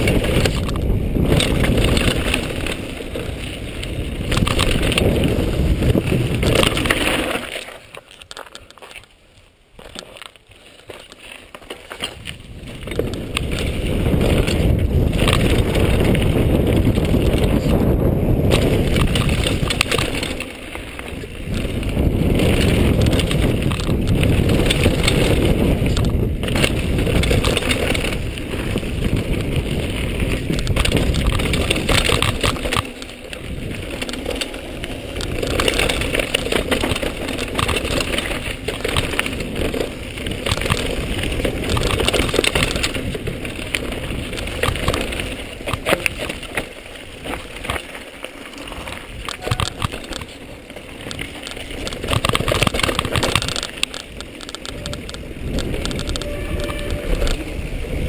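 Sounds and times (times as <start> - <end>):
wind on camera: 0.0 - 8.7, 12.0 - 58.0
bike knocking and rattling: 0.0 - 58.0
bike tyre rumble on gravel: 0.0 - 58.0.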